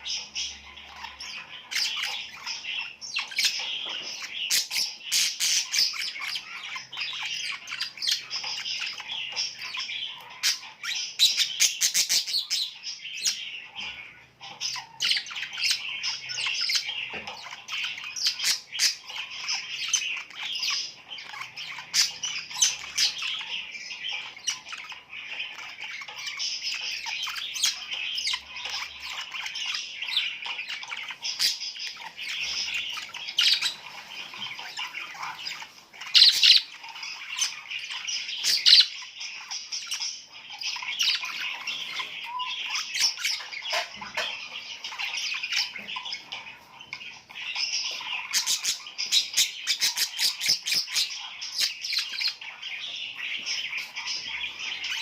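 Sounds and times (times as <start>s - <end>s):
flock of small birds chirping: 0.0s - 55.0s.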